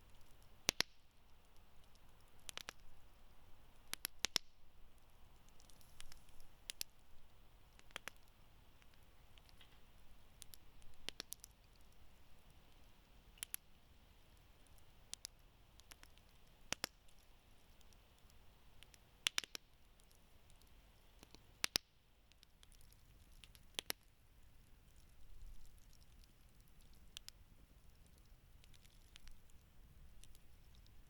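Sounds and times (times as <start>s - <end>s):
campfire pops and snaps: 0.0s - 13.7s, 14.6s - 24.1s, 28.2s - 31.0s
low hiss of burning: 0.0s - 31.0s.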